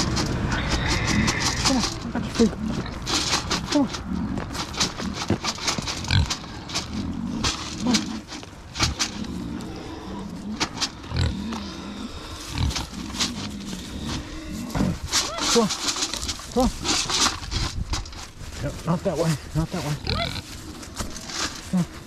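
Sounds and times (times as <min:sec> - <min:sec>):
pig grunting: 0:00.0 - 0:17.4, 0:19.3 - 0:22.0
footsteps on gravel and leaves: 0:00.0 - 0:22.0.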